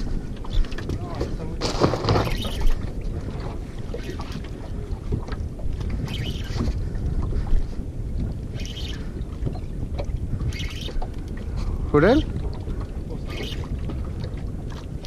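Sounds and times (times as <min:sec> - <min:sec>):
water sloshing against hull: 0:00.0 - 0:15.0
wind buffeting microphone: 0:00.0 - 0:15.0.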